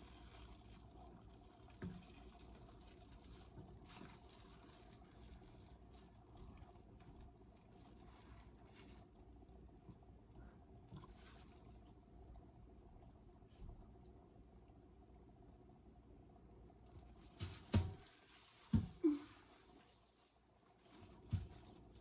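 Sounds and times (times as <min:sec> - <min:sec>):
faint soft rustles: 0:00.0 - 0:14.6, 0:16.4 - 0:22.0.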